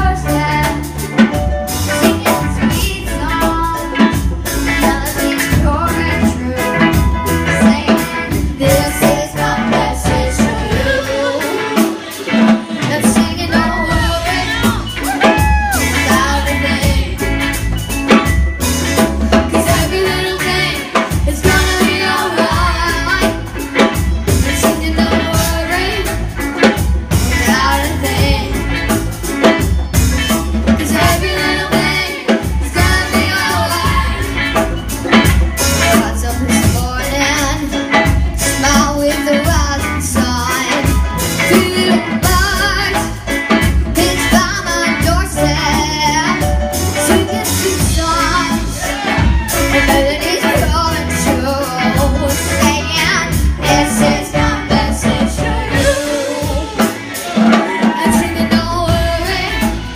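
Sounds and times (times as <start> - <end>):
chorus singing: 0.0 - 59.9
reggae band playing: 0.0 - 59.9.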